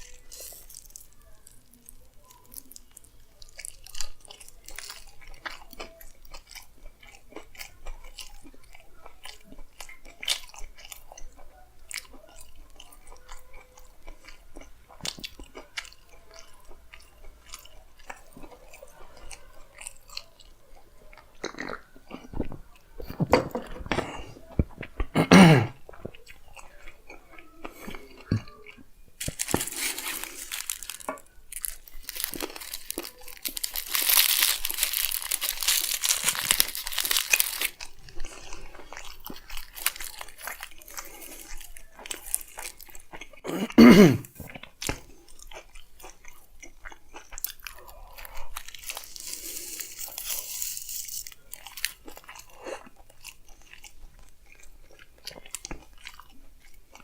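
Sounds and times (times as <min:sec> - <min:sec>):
chewing crunchy food: 0:00.0 - 0:57.0.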